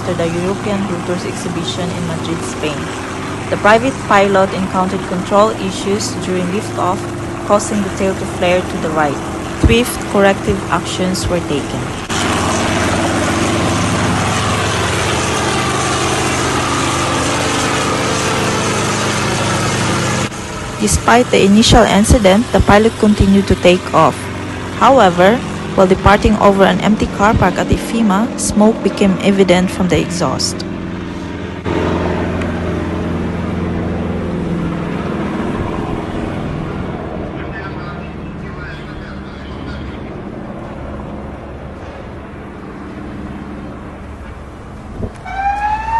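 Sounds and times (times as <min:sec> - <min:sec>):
helicopter engine and rotor: 0:00.0 - 0:45.8.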